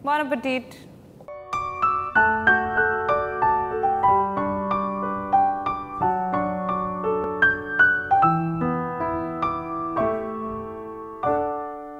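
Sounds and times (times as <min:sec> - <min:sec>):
gentle piano music: 0:01.3 - 0:11.9.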